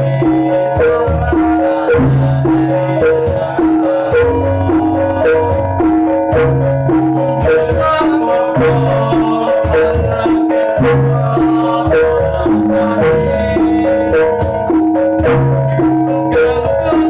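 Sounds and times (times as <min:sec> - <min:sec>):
gamelan ensemble with percussion: 0:00.0 - 0:17.0.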